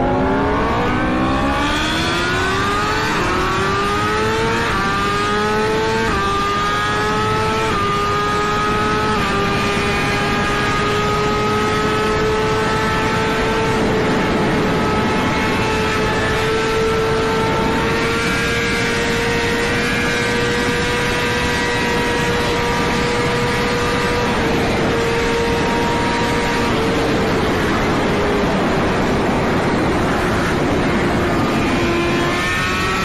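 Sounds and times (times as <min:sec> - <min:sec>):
motorcycle engine at high revs: 0:00.0 - 0:33.0
rushing wind: 0:00.0 - 0:33.0.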